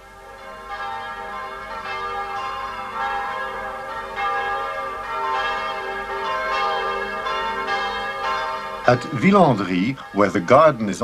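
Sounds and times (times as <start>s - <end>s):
bells pealing: 0.0s - 11.0s.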